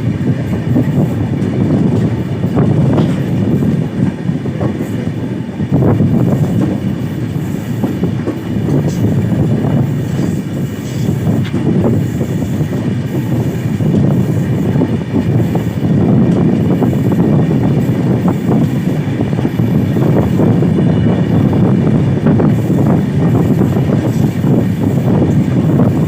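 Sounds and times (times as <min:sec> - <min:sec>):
train wagons rumbling past: 0:00.0 - 0:26.0
wheels clattering on track: 0:00.0 - 0:26.0.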